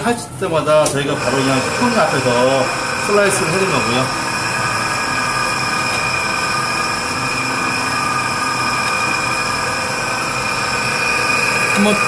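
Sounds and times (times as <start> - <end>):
electric meat slicer running: 0.0 - 12.0.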